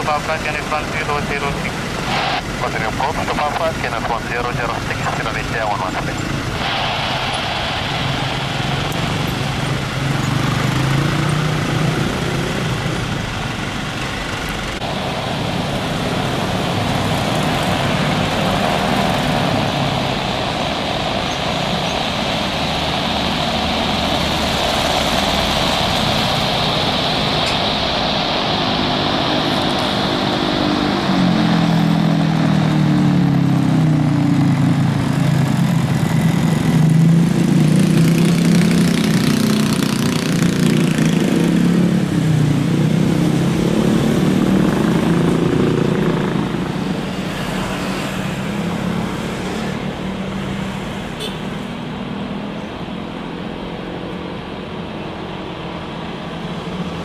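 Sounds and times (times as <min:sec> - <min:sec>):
aircraft engines droning: 0:00.0 - 0:57.0
jet engines whining: 0:00.0 - 0:57.0.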